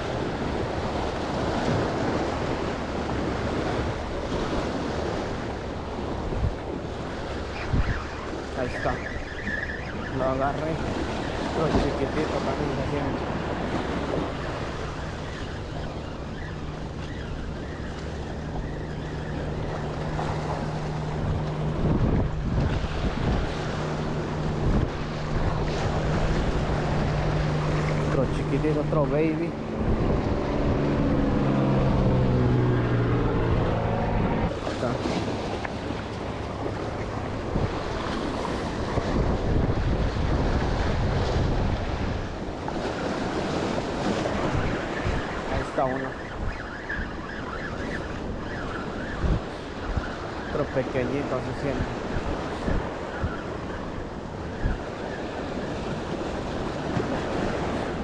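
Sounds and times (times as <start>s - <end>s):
waves breaking on rocks: 0.0s - 31.0s, 34.5s - 46.2s, 47.8s - 58.0s
wind buffeting microphone: 0.0s - 58.0s.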